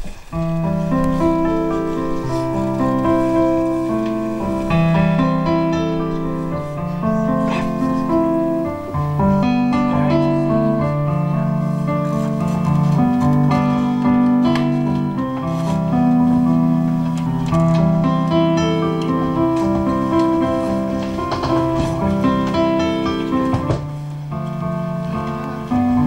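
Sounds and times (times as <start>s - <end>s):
keyboard chords: 0.0s - 26.0s.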